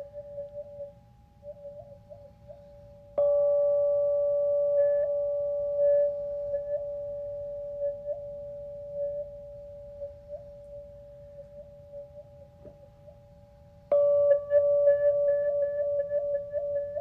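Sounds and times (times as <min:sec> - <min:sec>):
faint steady bowl tone: 0:00.0 - 0:17.0
singing bowl ringing: 0:00.0 - 0:17.0.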